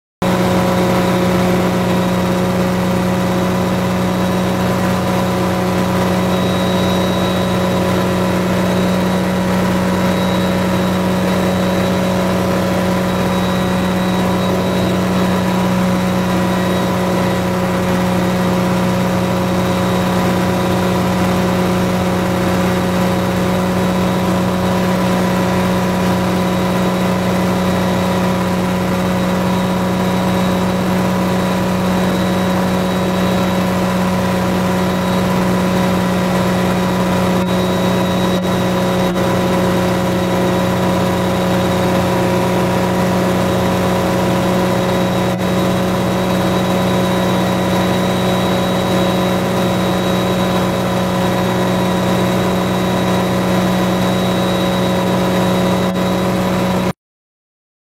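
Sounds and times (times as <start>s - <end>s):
helicopter engine and rotor drone: 0.2s - 56.9s.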